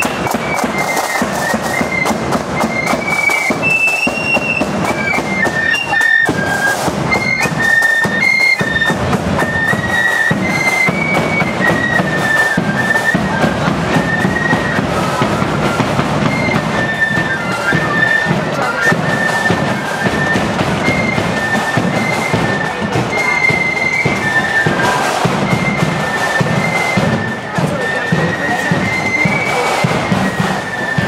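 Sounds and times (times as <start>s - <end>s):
drums beating: 0.0s - 31.0s
flutes playing in unison: 0.0s - 31.0s.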